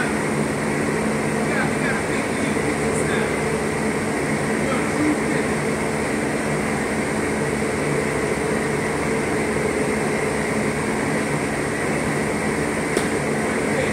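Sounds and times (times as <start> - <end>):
ventilation fans humming: 0.0 - 13.9.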